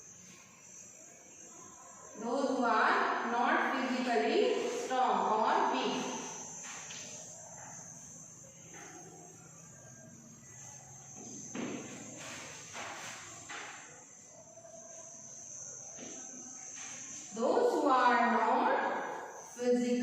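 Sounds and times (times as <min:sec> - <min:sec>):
steady high-pitched drone: 0:00.0 - 0:20.0.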